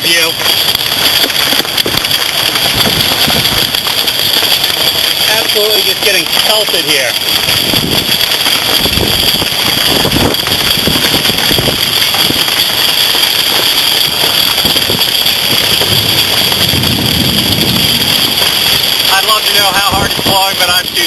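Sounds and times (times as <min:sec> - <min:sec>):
hail and rain pelting: 0:00.0 - 0:21.0
wind buffeting microphone: 0:00.0 - 0:21.0.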